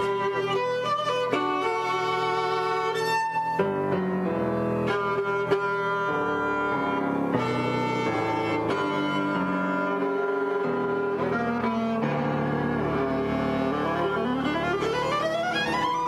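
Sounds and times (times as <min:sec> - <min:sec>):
bowed string instrument: 0:00.0 - 0:16.0
piano: 0:00.0 - 0:16.0.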